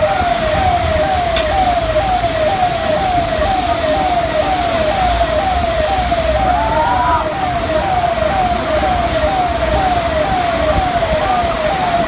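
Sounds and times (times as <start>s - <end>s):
siren: 0.0s - 12.0s
steady rushing noise: 0.0s - 12.0s.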